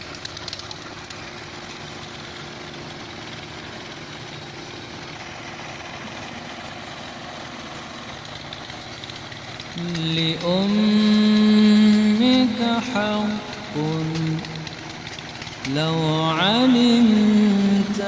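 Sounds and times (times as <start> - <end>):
heavy machinery engine running: 0.0 - 18.0.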